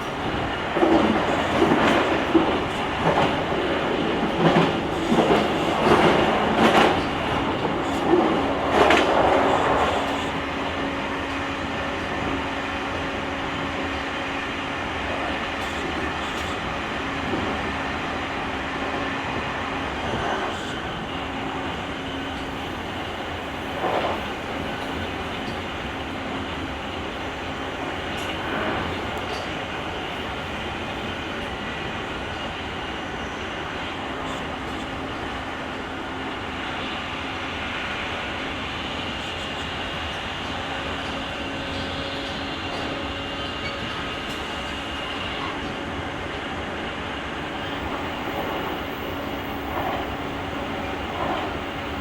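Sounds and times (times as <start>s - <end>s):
train wheels on rail: 0.0s - 52.0s.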